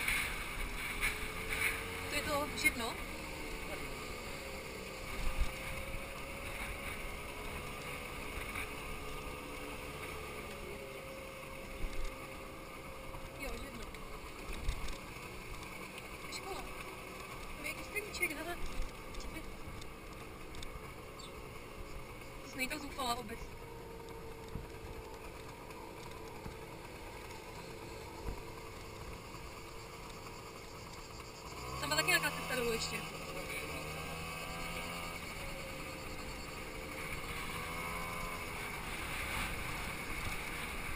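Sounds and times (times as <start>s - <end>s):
scooter engine running: 0.0s - 40.9s
wind and road noise: 0.0s - 40.9s.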